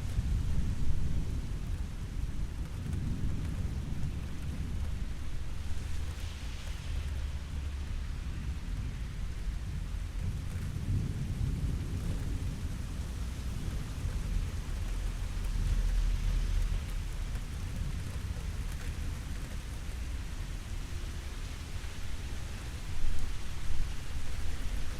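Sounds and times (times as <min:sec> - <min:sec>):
steady rain: 0:00.0 - 0:24.9.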